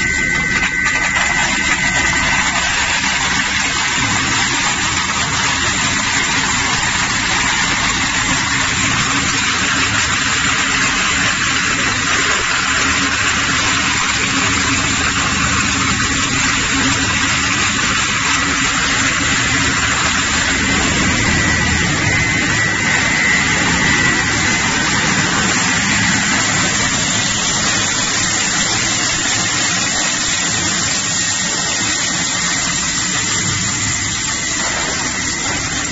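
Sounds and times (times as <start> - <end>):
faint high whine: 0.0 - 12.9, 13.5 - 30.7
shredder grinding cans: 0.0 - 35.9.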